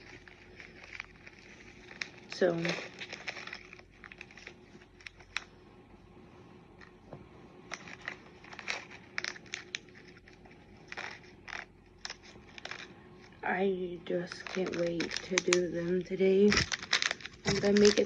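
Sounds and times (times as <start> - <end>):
plastic packaging crinkling: 0.0 - 5.5, 7.7 - 18.0.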